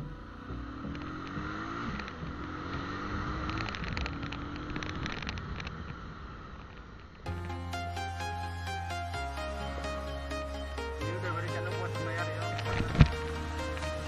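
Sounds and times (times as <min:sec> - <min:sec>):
motorcycle engine accelerating: 0:00.0 - 0:07.6, 0:08.2 - 0:14.0.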